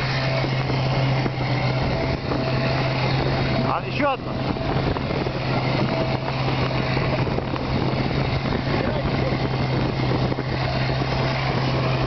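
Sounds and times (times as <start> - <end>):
outboard motor drone: 0.0 - 12.0
water splashing along hulls: 0.0 - 12.0.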